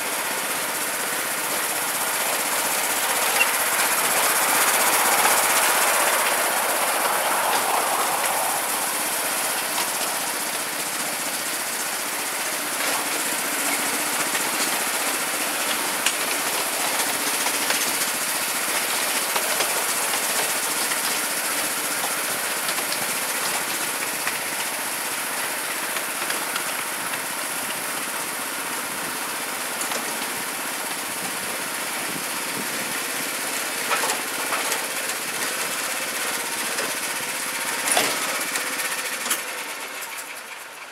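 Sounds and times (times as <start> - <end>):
miniature train engine running: 0.0 - 40.9.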